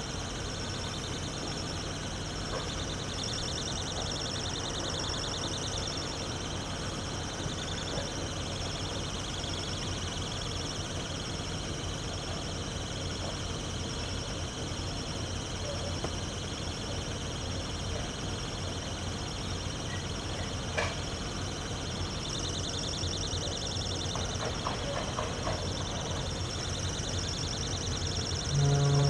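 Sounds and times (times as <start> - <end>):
distant diesel locomotive drone: 0.0 - 29.0
insects chirring: 0.0 - 29.0.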